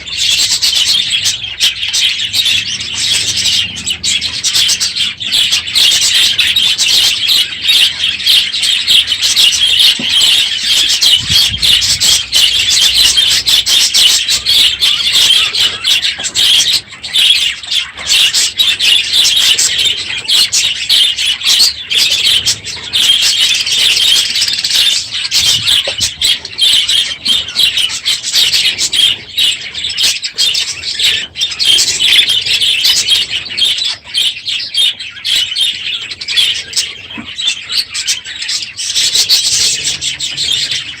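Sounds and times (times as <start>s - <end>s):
bird squawk: 0.0s - 41.0s
budgerigars chattering and chirping: 0.0s - 41.0s.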